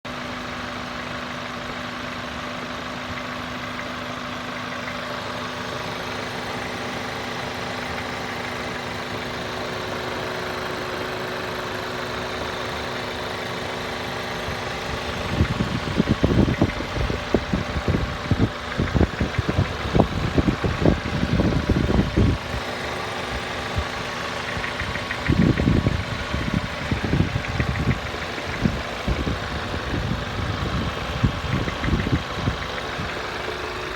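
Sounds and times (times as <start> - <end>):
car engine idling: 0.0 - 33.9
heavy engine knocking: 0.1 - 33.9.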